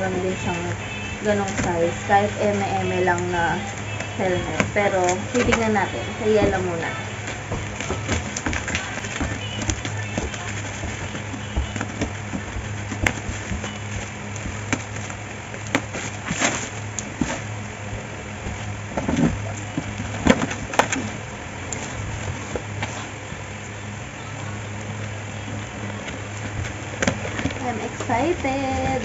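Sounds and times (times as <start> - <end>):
plastic wrapping crinkling: 0.0 - 29.0
steady low hum: 0.0 - 29.0.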